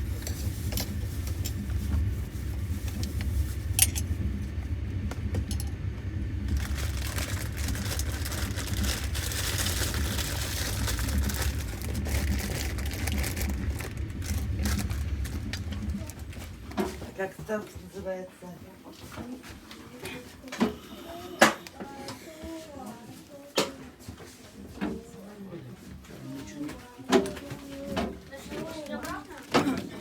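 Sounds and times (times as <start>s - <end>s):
train carriage rumble: 0.0s - 23.5s, 24.5s - 30.0s.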